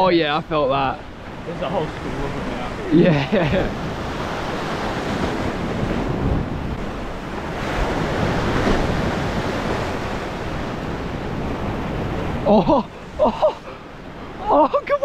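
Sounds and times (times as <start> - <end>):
surf washing against rocky shore: 0.0 - 15.0
wind on microphone: 0.9 - 14.6.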